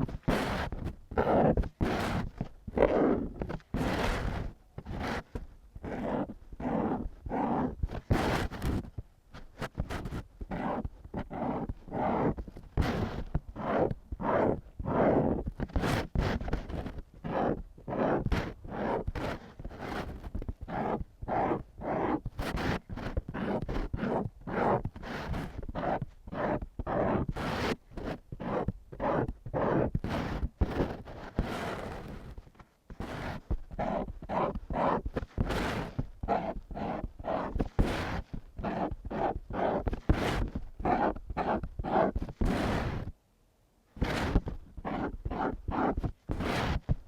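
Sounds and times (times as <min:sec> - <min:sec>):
pen scratching on paper: 0:00.0 - 0:43.2, 0:44.0 - 0:47.0.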